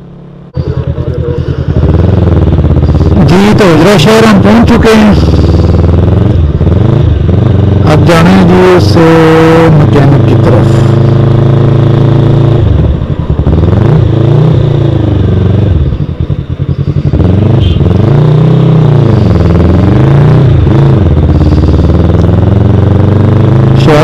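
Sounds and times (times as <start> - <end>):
motorcycle engine while riding: 0.0 - 24.0.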